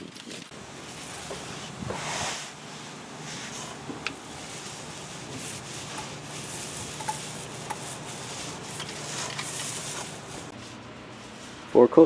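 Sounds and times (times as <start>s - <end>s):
paint roller hissing: 0.5s - 12.0s.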